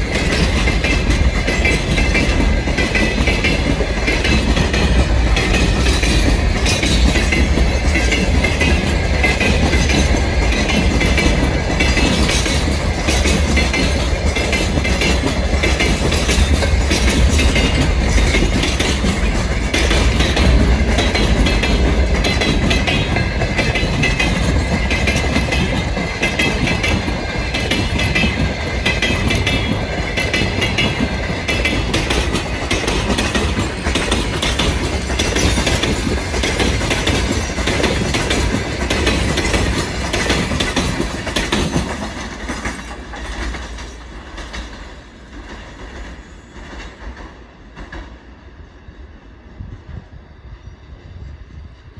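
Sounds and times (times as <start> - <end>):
wheels clacking over rail joints: 0.0 - 48.2
freight train rumbling past: 0.0 - 51.9.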